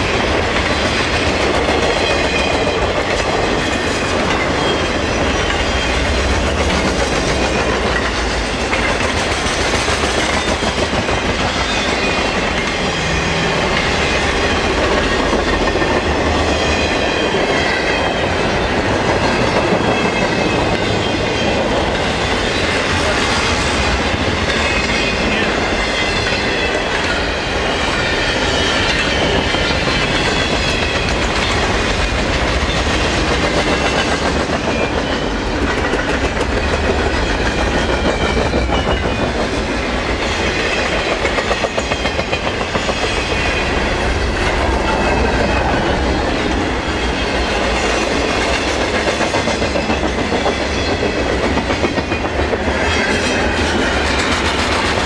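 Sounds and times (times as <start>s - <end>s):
freight train wheels clattering on rails: 0.0s - 55.0s.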